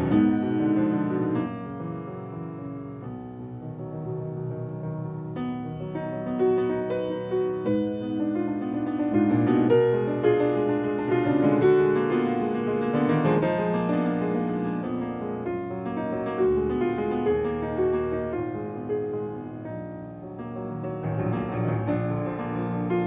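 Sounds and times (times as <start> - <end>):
solo grand piano piece: 0.0 - 23.0.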